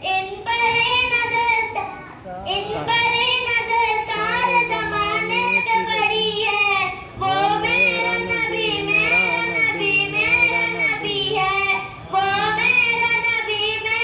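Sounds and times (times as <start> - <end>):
girl singing into a microphone: 0.0 - 14.0.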